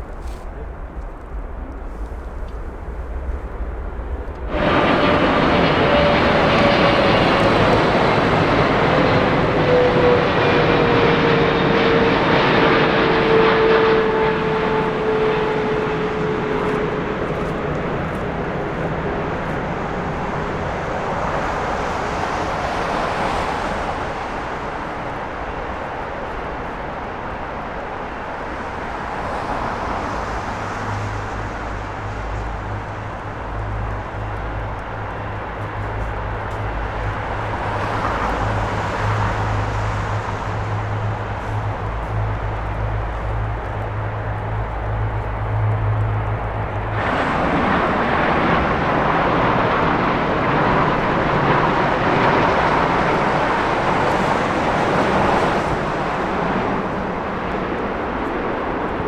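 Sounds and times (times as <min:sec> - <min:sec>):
jet airliner passing: 0:00.0 - 0:59.0.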